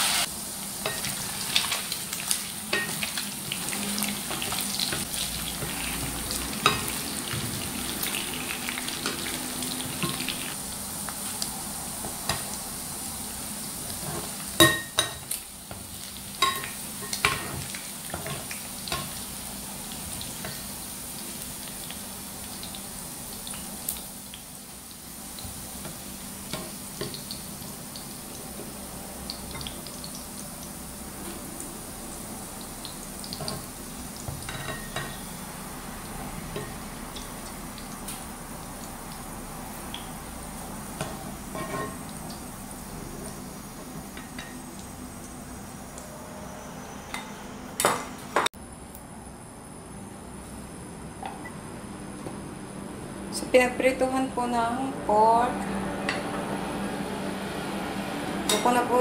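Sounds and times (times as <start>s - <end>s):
meat sizzling in hot oil: 0.0s - 47.2s.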